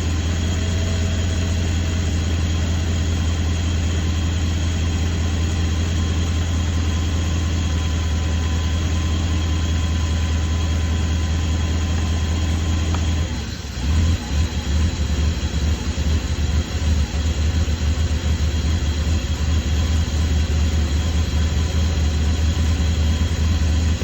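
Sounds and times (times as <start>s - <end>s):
car engine idling roughly: 0.0s - 24.0s.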